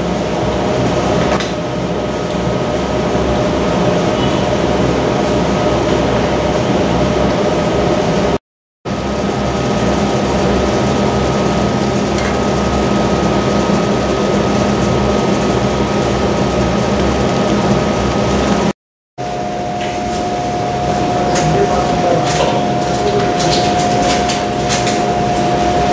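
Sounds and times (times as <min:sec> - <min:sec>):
steady machine hum: 0:00.0 - 0:25.9.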